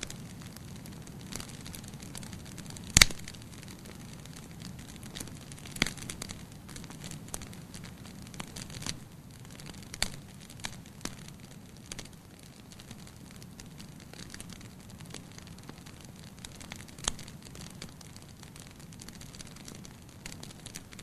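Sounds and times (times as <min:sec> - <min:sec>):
sharp pops of fire: 0:00.0 - 0:21.0
wood fire crackling: 0:00.0 - 0:21.0.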